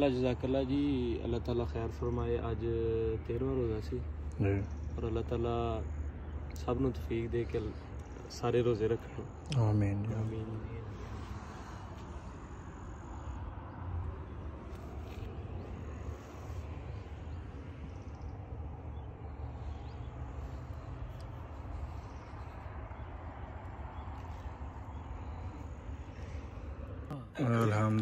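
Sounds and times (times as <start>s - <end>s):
steady low rumble: 0.0s - 28.0s
faint bird calls: 2.1s - 27.2s.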